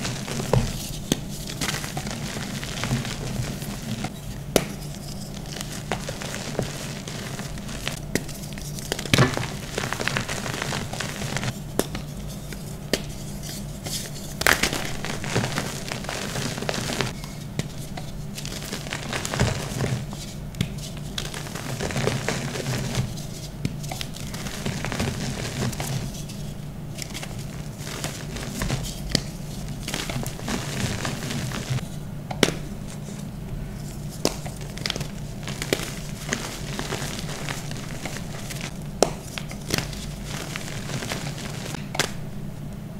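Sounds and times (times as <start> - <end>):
chalk crackling and crunching: 0.0 - 32.0, 32.8 - 42.2
low steady hum: 0.0 - 42.9.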